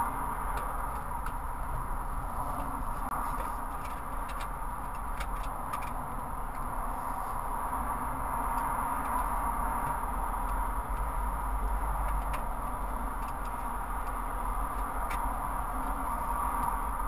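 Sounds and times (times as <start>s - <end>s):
motorway traffic noise: 0.0s - 17.0s.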